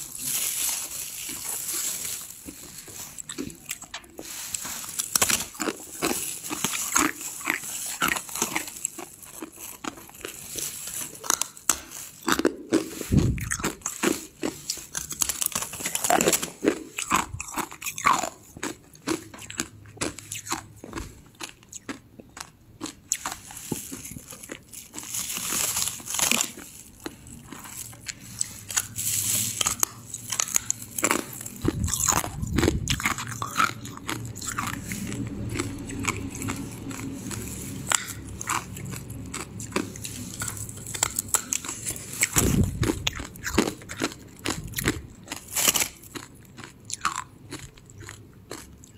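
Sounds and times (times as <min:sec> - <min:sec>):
person crunching ice: 0:00.0 - 0:48.9.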